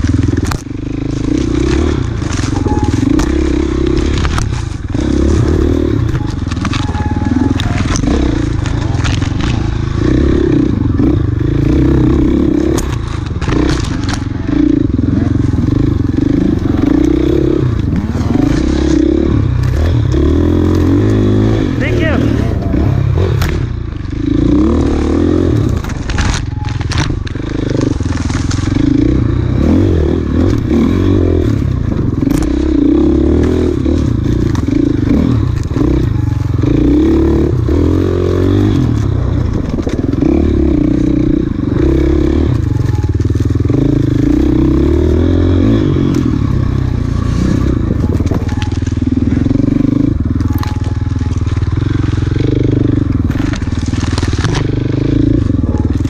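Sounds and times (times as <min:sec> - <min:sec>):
motorcycle knocking over rough ground: 0:00.0 - 0:22.2, 0:23.3 - 0:56.0
motorcycle engine revving: 0:00.0 - 0:56.0.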